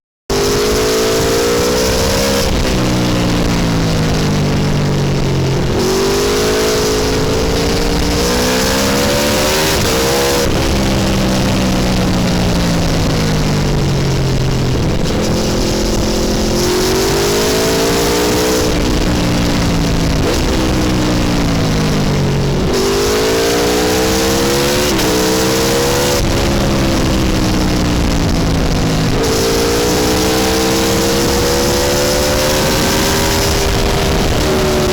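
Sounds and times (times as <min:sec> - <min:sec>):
motorcycle engine revving through gears: 0:00.2 - 0:34.9.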